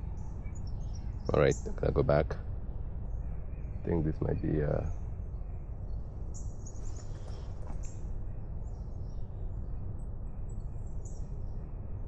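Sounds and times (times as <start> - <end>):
low outdoor rumble: 0.0 - 12.0
songbirds chirping: 0.0 - 12.0.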